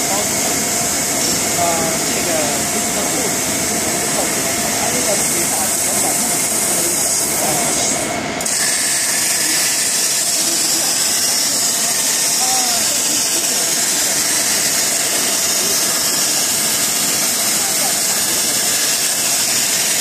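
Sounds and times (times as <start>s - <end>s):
cutting torch hissing: 0.0s - 20.0s.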